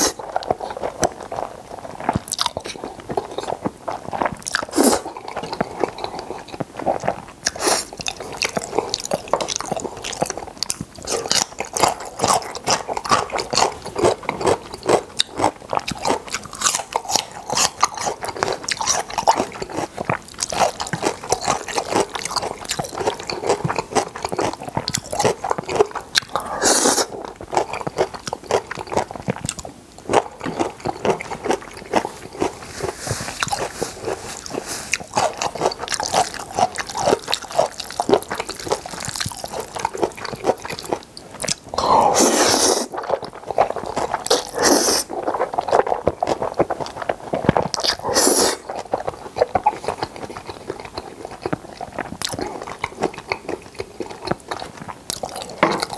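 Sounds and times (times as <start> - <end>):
noodles being slurped: 0.0 - 55.9
wet chewing and smacking: 0.0 - 55.9.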